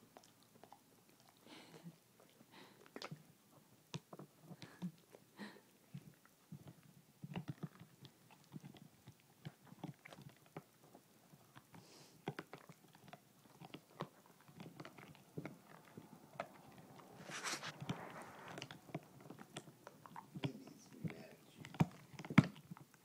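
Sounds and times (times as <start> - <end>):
dog gnawing bone: 2.2 - 5.2, 5.9 - 23.0.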